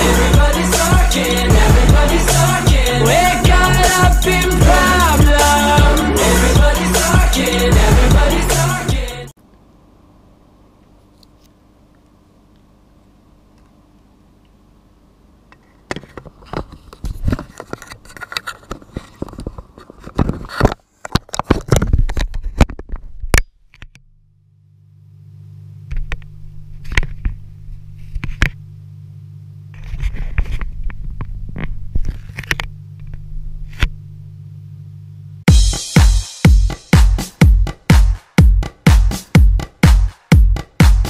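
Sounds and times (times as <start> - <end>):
steady low hum: 0.0 - 15.9, 24.0 - 41.0.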